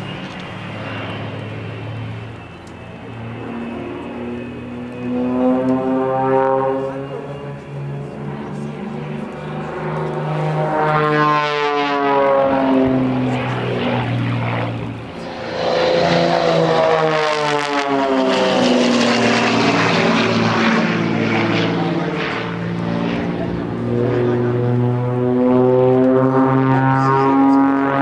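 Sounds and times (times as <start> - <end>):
propeller plane engines droning: 0.0 - 28.0.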